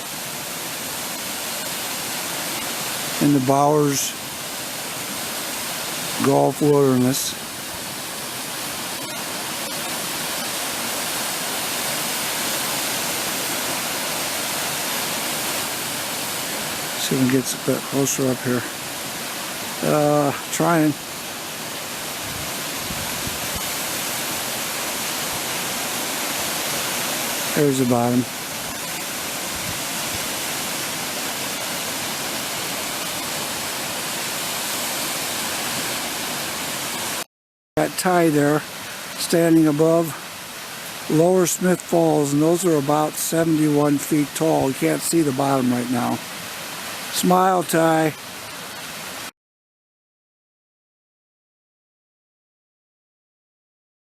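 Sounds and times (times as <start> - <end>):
waterfall rushing: 0.0 - 49.3.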